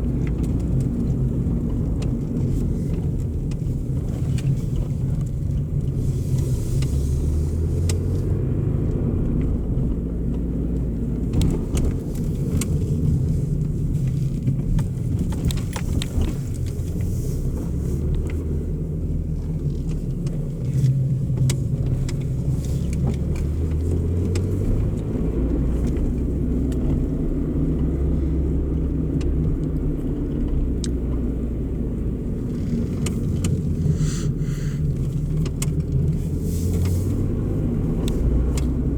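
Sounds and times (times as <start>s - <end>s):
car exhaust rumble: 0.0s - 38.9s.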